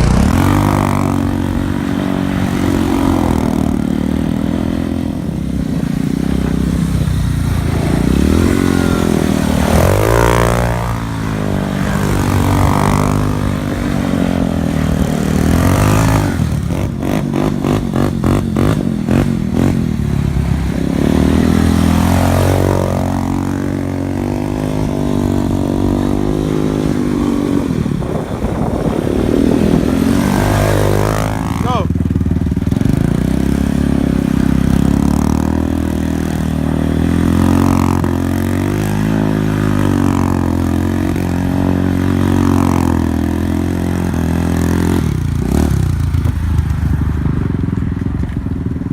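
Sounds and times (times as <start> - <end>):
quad and dirt bike engines revving: 0.0 - 48.9.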